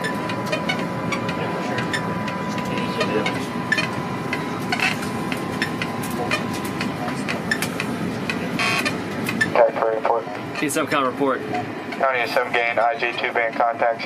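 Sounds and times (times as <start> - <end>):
ventilation and equipment hiss: 0.1 - 14.0.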